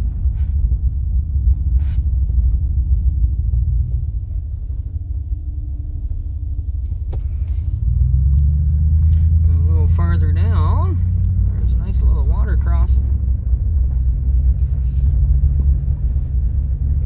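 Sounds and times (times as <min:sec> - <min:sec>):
vehicle driving on dirt road: 0:00.0 - 0:17.0.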